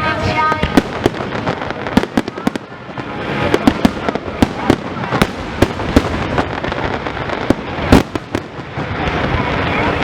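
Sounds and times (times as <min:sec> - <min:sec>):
fireworks bangs and pops: 0:00.0 - 0:10.0
steady noisy background: 0:00.0 - 0:10.0.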